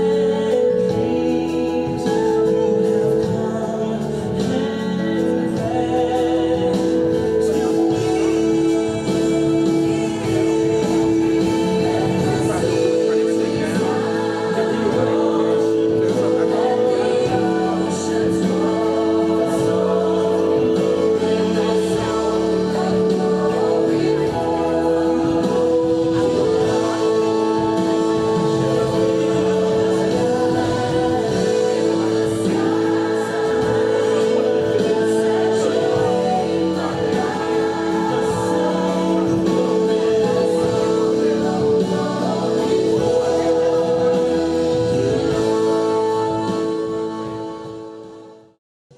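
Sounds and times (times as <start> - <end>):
moving bass line: 0.0 - 48.0
gospel choir singing: 0.0 - 48.6
instrumental accompaniment: 0.0 - 48.6.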